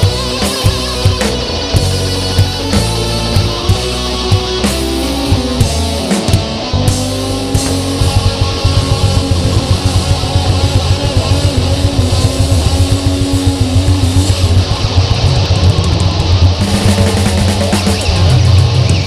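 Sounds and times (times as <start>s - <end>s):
live rock band: 0.0s - 19.0s
wavering held guitar note: 0.0s - 19.0s.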